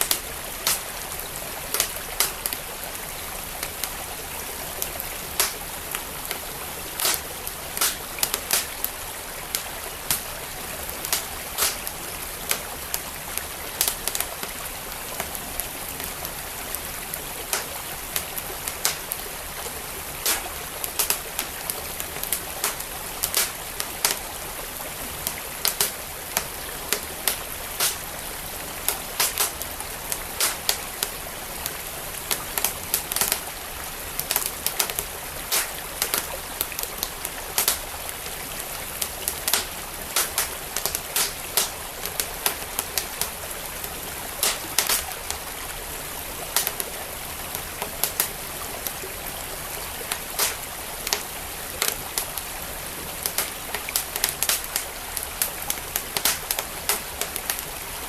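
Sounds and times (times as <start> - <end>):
wood fire crackling and popping: 0.0 - 49.1, 49.7 - 57.8
stream flowing: 0.0 - 58.0.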